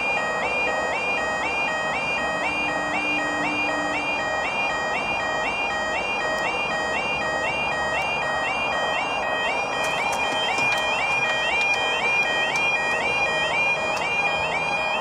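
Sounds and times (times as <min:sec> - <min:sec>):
level crossing warning alarm: 0:00.0 - 0:15.0.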